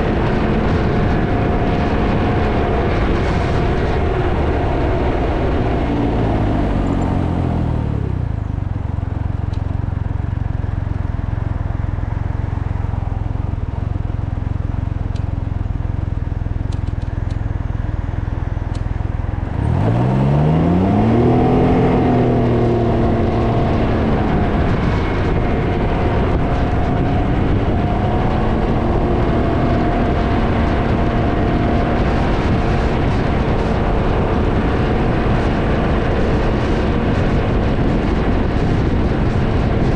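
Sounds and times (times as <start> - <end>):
motorcycle engine: 0.0 - 39.9
wind rumble on microphone: 0.0 - 39.9.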